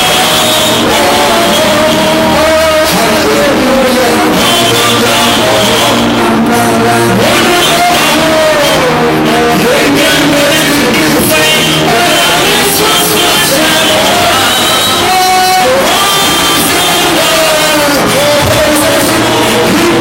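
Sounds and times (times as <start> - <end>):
band accompaniment with guitar: 0.0 - 20.0
person singing: 0.0 - 20.0.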